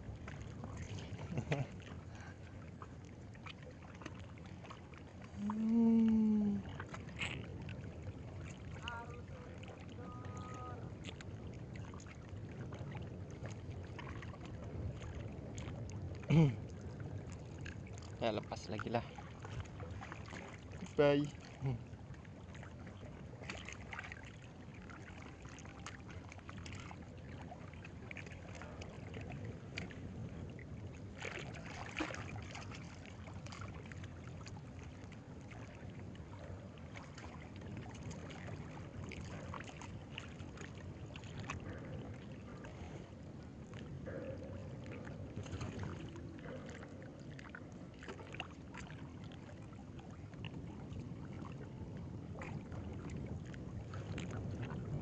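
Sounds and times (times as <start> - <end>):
water lapping at shore: 0.0 - 55.0.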